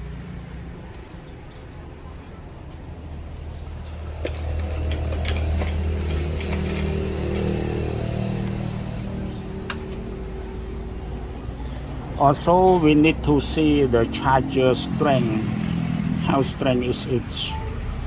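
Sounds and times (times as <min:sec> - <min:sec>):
low mechanical hum: 0:00.0 - 0:16.7.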